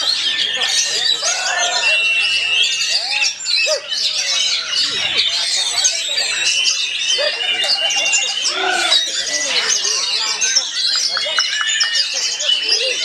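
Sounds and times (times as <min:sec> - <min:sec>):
chorus of birds singing: 0:00.0 - 0:13.0
magpie-robin singing: 0:00.0 - 0:13.0.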